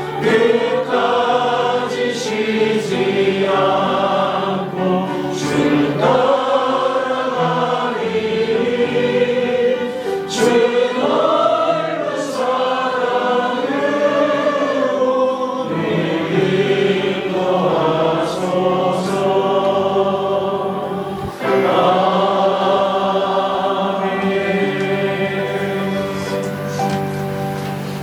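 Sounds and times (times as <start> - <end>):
instrumental accompaniment: 0.0 - 15.0, 15.6 - 28.0
group singing a slow hymn: 0.0 - 28.0.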